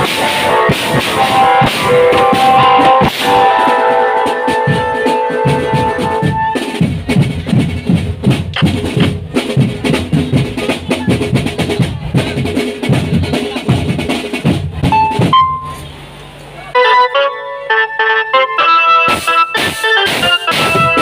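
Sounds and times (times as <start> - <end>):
snare and bass drums: 0.0 - 15.9, 19.1 - 21.0
held melodic notes: 0.0 - 21.0.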